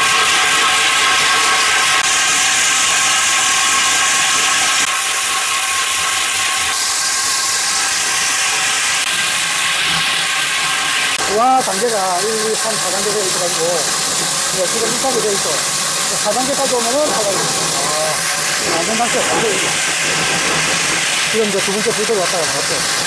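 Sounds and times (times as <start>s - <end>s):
core drill boring into concrete: 0.0s - 23.0s.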